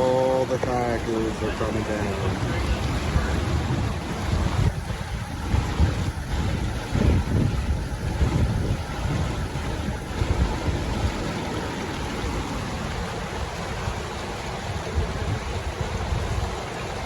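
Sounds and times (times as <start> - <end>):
river rapids rushing: 0.0 - 17.0
wind buffeting microphone: 0.0 - 17.0.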